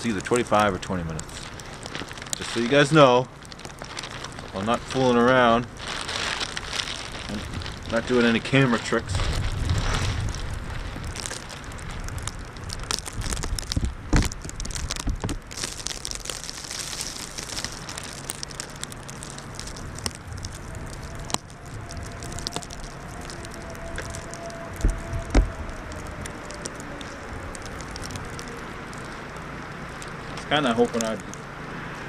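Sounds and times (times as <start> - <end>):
plastic bag crackling: 0.0 - 31.4.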